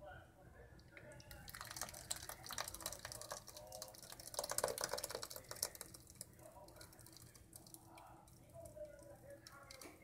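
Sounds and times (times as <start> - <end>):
thick puree pouring into a pot: 0.6 - 10.0.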